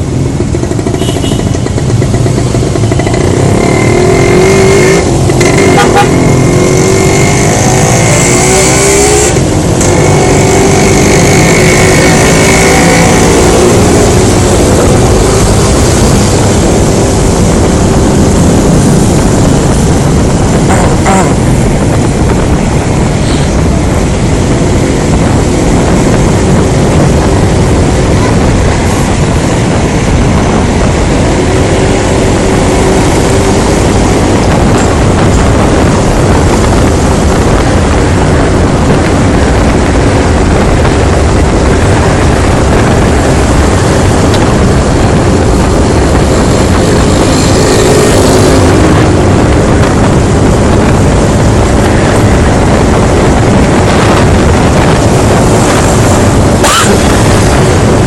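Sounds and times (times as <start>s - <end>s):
scooter engine drone: 0.0s - 58.0s
wind and road noise: 0.0s - 58.0s.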